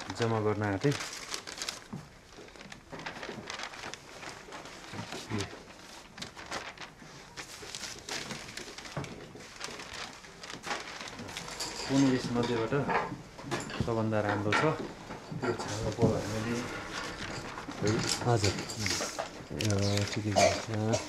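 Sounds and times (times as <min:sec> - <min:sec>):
paper rustling and flapping: 0:00.0 - 0:12.8, 0:13.6 - 0:21.0.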